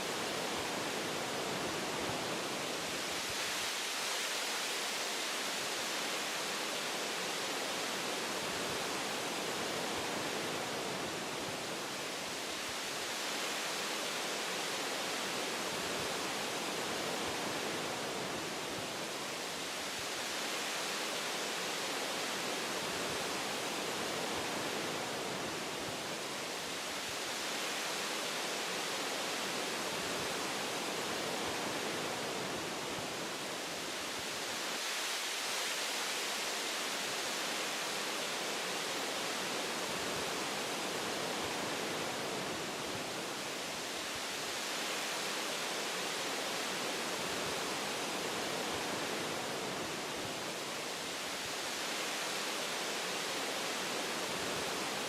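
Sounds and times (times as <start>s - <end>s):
wind rushing through tree branches: 0.0s - 55.0s.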